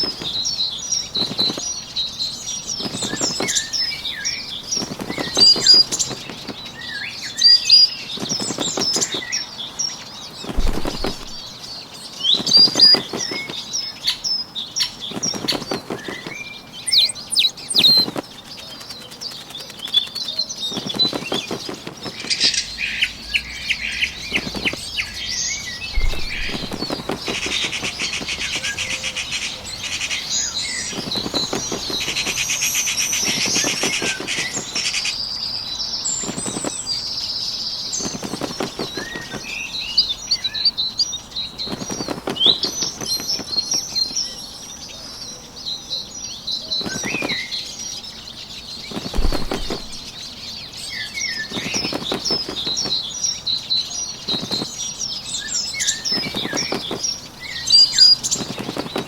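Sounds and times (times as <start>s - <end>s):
bird wings flapping: 0.0s - 35.1s, 36.1s - 40.6s, 41.4s - 44.4s, 46.7s - 47.8s, 48.5s - 50.4s, 51.1s - 53.2s, 54.1s - 59.0s
small birds chirping: 0.0s - 59.0s.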